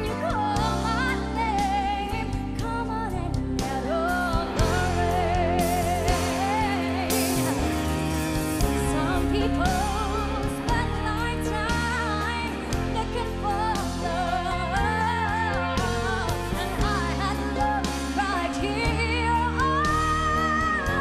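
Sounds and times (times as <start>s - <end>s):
instrumental accompaniment with beat: 0.0s - 21.0s
woman singing pop ballad: 0.0s - 21.0s.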